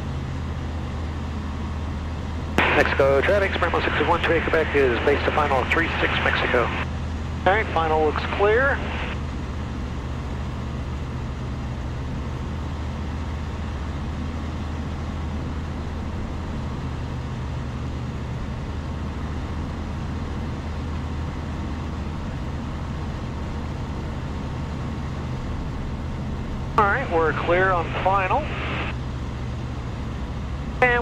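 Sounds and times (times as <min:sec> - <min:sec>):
aircraft engine and propeller drone: 0:00.0 - 0:31.0.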